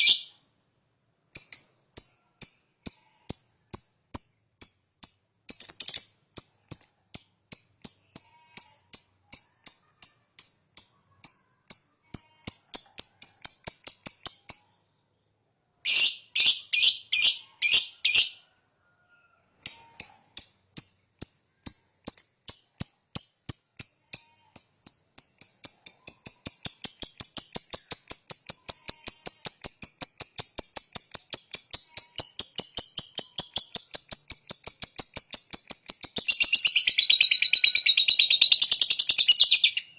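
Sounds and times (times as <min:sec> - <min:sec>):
bird chattering trill: 0:00.0 - 0:00.4, 0:01.4 - 0:14.8, 0:15.9 - 0:18.4, 0:19.6 - 0:39.9
bird chirping high-pitched: 0:00.0 - 0:00.4, 0:01.4 - 0:15.2, 0:15.8 - 0:18.5, 0:19.6 - 0:39.9.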